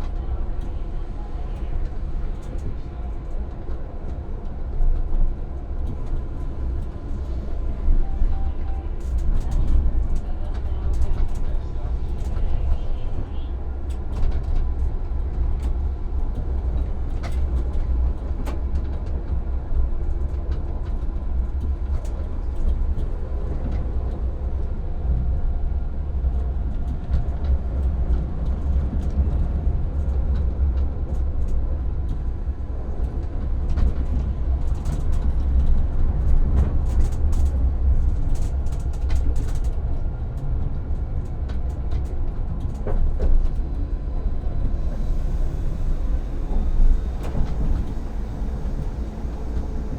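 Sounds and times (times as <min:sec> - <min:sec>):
tram rumbling: 0:00.0 - 0:49.9.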